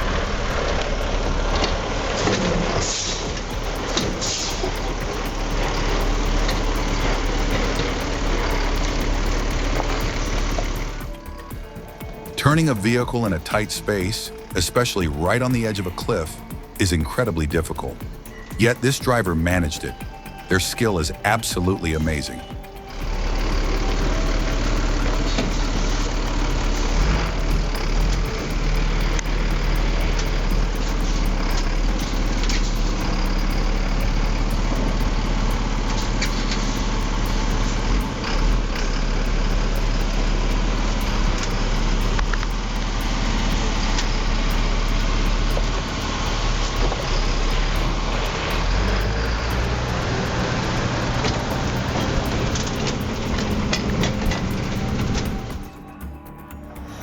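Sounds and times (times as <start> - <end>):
truck engine running under load: 0.0 - 57.0.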